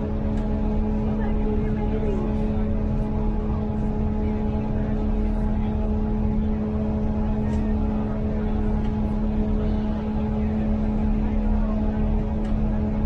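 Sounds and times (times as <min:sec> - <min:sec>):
diesel train engine droning: 0:00.0 - 0:13.0.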